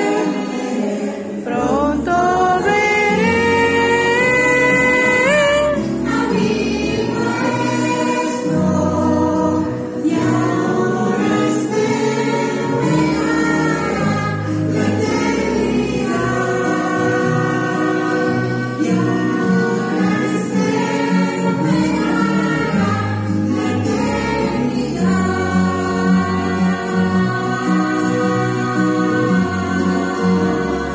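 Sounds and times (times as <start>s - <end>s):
choir singing a hymn: 0.0s - 30.9s
musical accompaniment: 0.0s - 30.9s.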